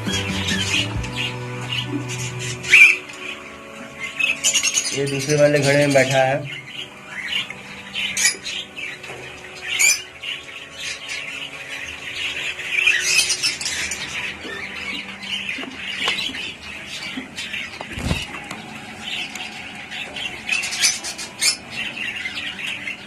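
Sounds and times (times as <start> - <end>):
birds chattering: 0.0 - 23.0.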